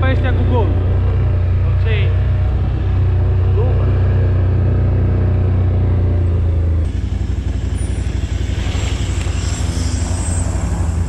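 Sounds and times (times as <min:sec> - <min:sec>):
atv engine running: 0:00.0 - 0:11.0
van engine passing: 0:00.0 - 0:11.0.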